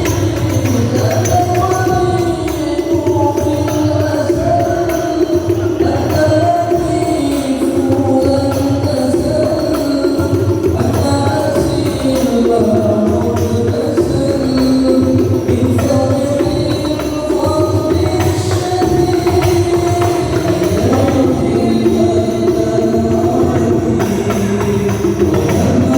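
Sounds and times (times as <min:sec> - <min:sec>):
hand drum and tambourine: 0:00.0 - 0:25.9
person singing devotional melody: 0:00.0 - 0:25.9.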